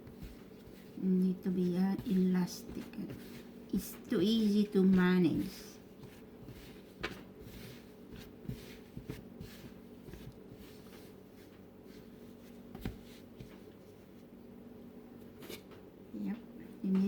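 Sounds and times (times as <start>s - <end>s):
dough pressing and rubbing: 0.0s - 14.4s.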